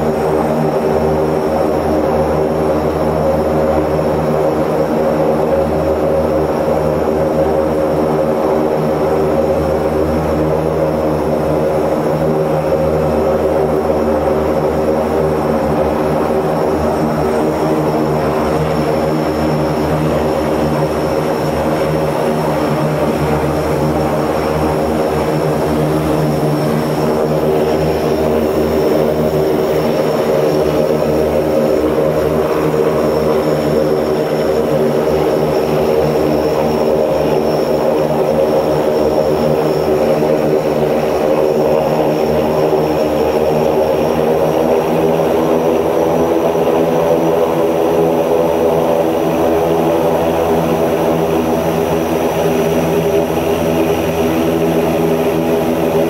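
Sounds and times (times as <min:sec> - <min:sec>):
high turbine whine: 0:00.0 - 0:56.0
propeller drone: 0:00.0 - 0:56.0.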